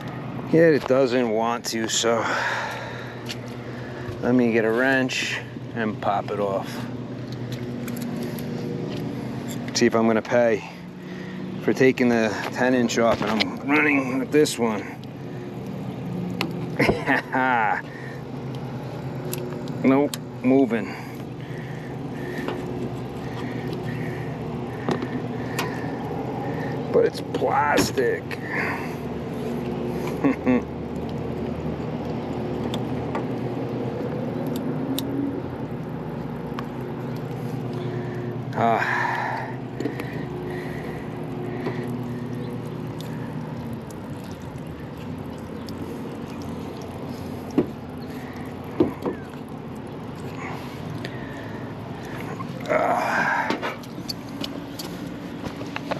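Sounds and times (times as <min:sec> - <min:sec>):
air conditioning unit humming: 0:00.0 - 0:55.9.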